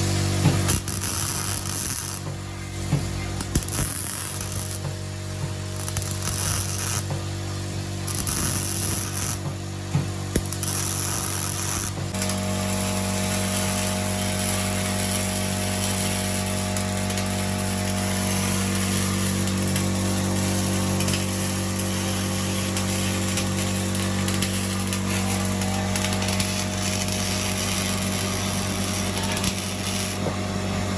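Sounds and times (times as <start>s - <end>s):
welding arc crackling hiss: 0.0s - 30.9s
welding machine electrical hum: 0.0s - 30.9s.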